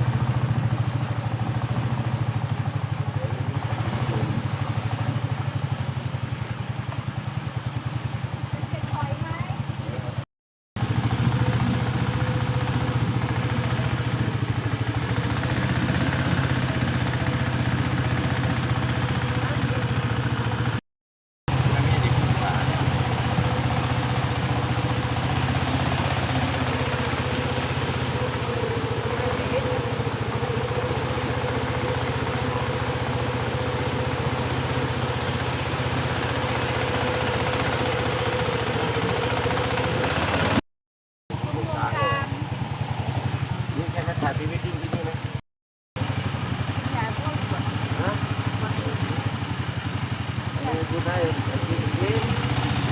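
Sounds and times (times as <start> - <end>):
boat engine chugging: 0.0 - 10.2, 10.8 - 20.8, 21.5 - 40.6, 41.3 - 45.4, 46.0 - 52.9.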